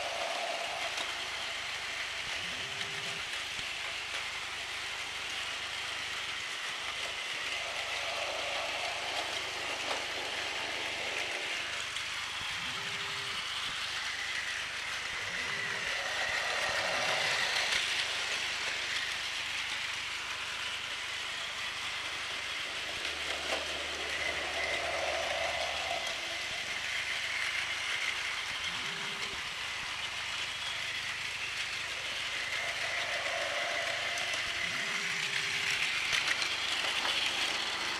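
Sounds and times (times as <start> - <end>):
toy trains whirring and rattling: 0.0 - 37.9.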